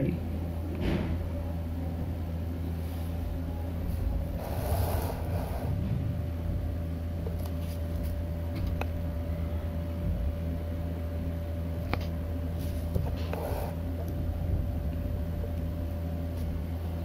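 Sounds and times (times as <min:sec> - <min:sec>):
low machine hum: 0:00.0 - 0:17.0
thin steady whine: 0:00.0 - 0:17.0.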